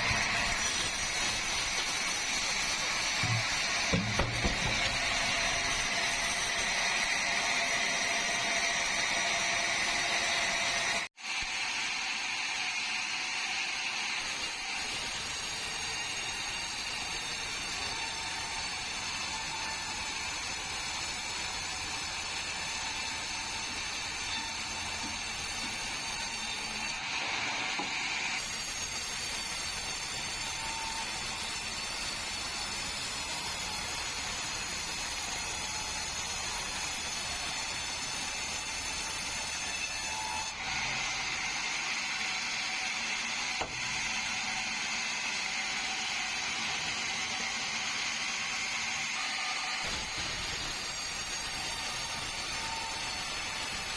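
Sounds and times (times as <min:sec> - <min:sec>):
sawmill saw cutting log: 0:00.0 - 0:53.9.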